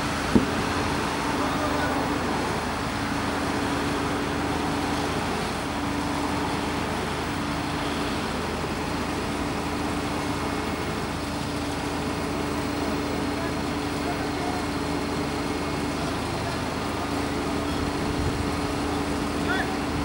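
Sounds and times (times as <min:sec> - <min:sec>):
road traffic noise: 0:00.0 - 0:20.0
truck engine humming: 0:00.0 - 0:20.0.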